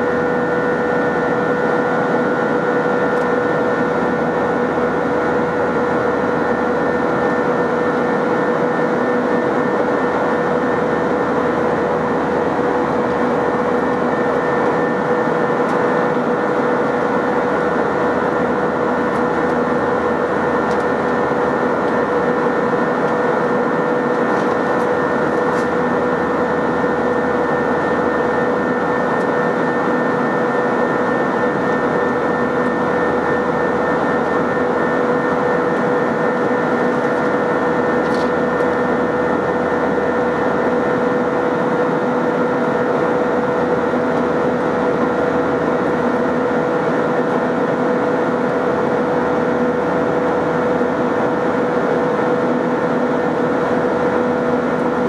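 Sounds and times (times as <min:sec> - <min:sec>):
jet engine cabin noise: 0:00.0 - 0:55.0.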